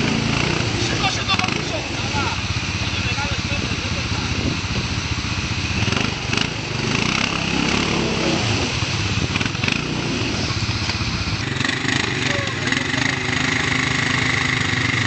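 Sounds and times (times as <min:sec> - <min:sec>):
atv engine running at low revs: 0:00.0 - 0:15.0.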